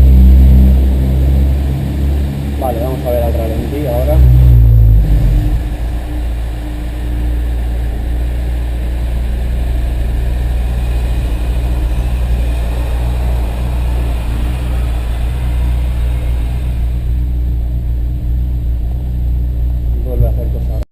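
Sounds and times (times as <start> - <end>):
car engine running steadily: 0.0 - 20.8.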